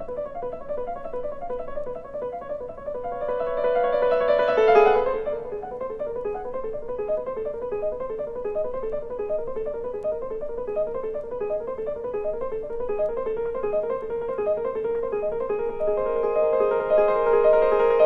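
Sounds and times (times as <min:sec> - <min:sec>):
solo piano repeated notes: 0:00.0 - 0:18.0.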